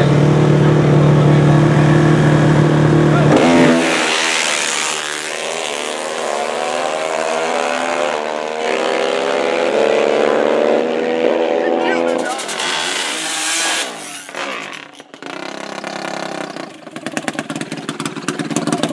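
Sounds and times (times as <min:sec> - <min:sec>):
racing quad engines: 0:00.0 - 0:18.9.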